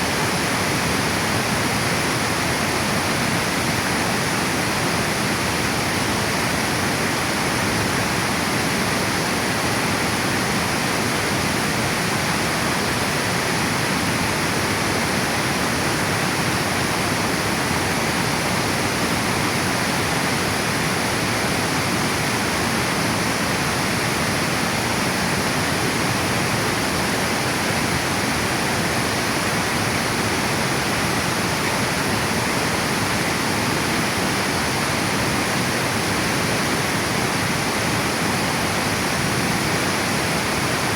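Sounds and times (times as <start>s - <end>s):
water rushing over a dam: 0.0s - 40.9s.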